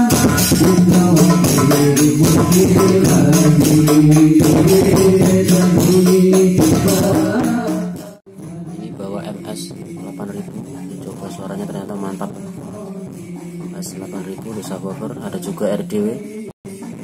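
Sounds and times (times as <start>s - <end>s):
frame drums: 0.0s - 17.0s
men singing devotional chant: 0.0s - 17.0s.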